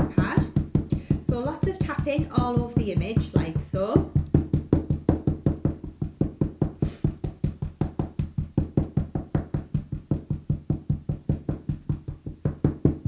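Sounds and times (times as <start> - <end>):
ink pad tapping on stamp: 0.0 - 13.0.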